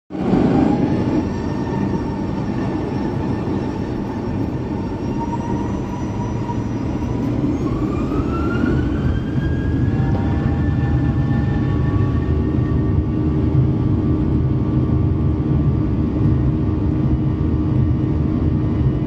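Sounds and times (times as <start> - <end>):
jet engines whining: 0.2 - 19.0.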